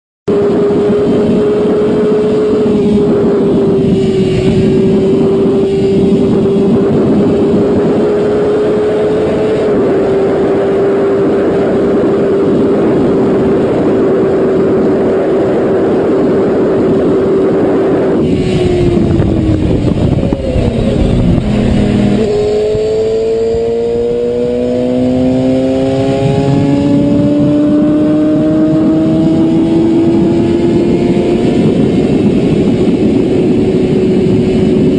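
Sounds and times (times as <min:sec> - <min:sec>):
motorcycle engine: 0:00.3 - 0:34.9
wind rush: 0:00.3 - 0:34.9.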